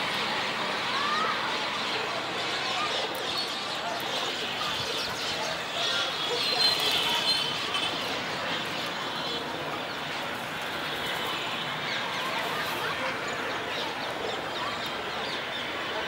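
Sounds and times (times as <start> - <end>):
flock of birds chirping: 0.0 - 16.0.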